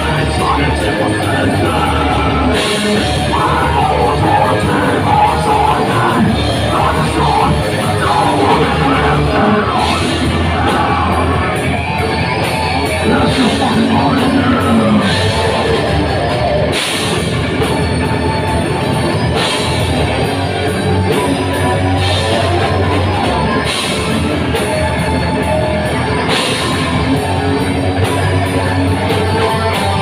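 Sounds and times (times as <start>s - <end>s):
bass guitar: 0.0s - 30.0s
drums: 0.0s - 30.0s
electric guitar: 0.0s - 30.0s
keyboard: 0.0s - 30.0s
vocalist singing and yelling: 0.0s - 30.0s.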